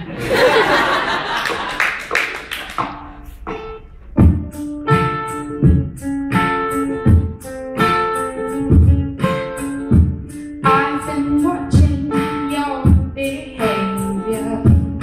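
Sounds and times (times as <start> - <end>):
plucked string instrument chords: 2.8 - 15.0.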